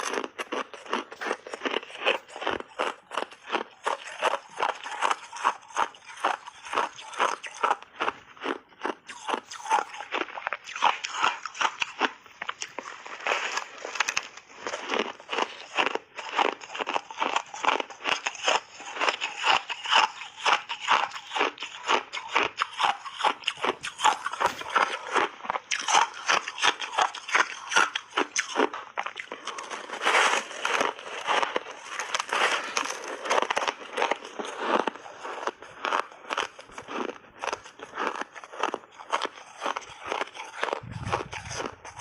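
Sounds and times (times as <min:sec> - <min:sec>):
ice being chewed: 0:00.0 - 0:42.0.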